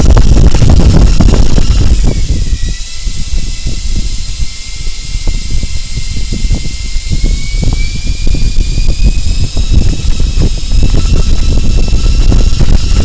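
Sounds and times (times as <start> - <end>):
electric motor whine: 0.0 - 13.0
helicopter rotor noise: 0.0 - 13.0.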